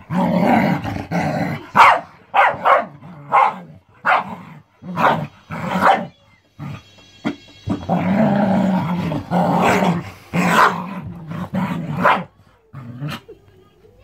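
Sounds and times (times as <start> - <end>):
dog growling: 0.0 - 1.8, 3.0 - 13.4
dogs barking and snarling: 0.0 - 6.8, 7.7 - 13.3.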